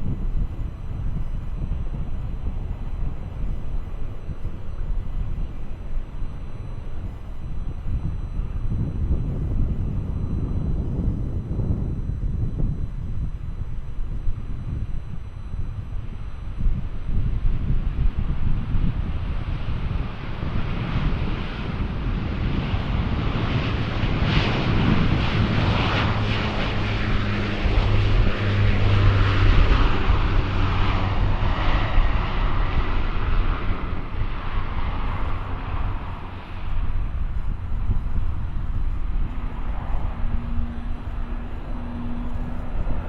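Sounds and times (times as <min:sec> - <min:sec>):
airliner engines taking off: 0:00.0 - 0:43.0
wind on microphone: 0:00.0 - 0:43.0.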